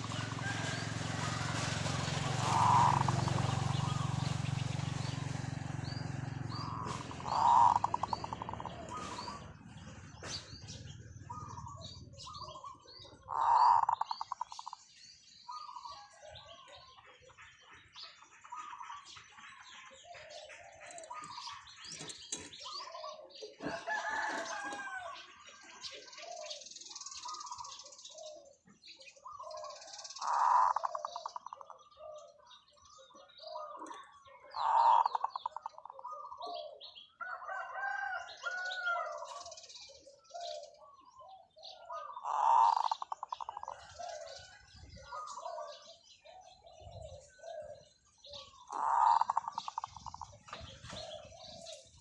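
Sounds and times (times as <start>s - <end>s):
dove cooing: 0.0s - 14.9s, 15.5s - 52.0s
small birds chirping: 0.0s - 52.0s.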